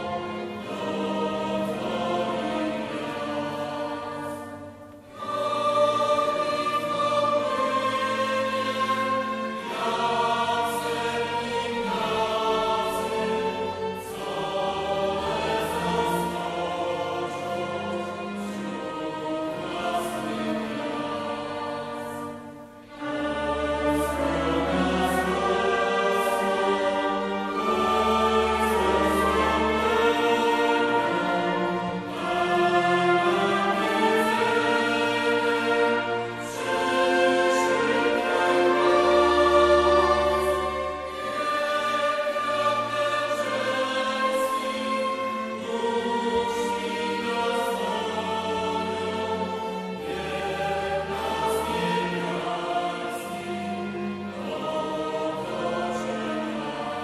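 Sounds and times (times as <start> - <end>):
mixed choir singing: 0.0 - 57.0
small orchestra of strings and winds: 0.0 - 57.0.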